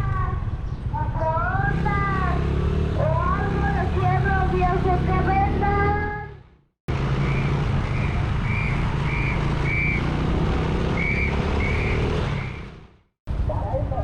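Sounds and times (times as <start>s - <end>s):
street traffic engines: 0.0s - 14.0s.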